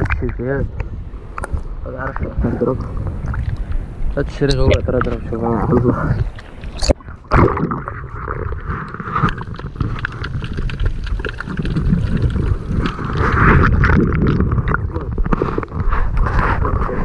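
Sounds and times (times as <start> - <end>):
sea water sloshing and splashing: 2.8 - 17.0.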